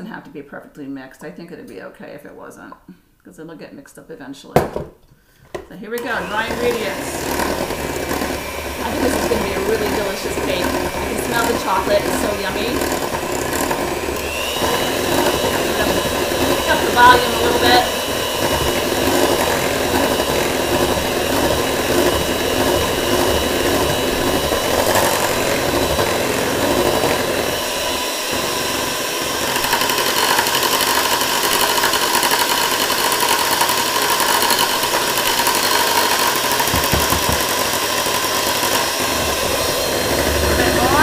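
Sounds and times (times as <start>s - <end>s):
electric hand mixer running: 6.0s - 41.0s.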